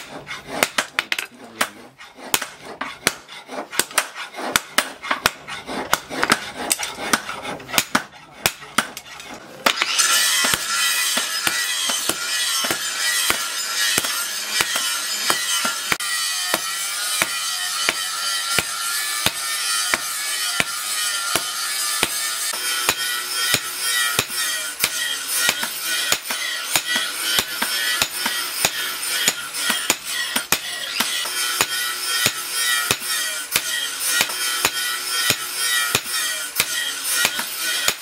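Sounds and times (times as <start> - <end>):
hammer striking metal on anvil: 0.0 - 38.0.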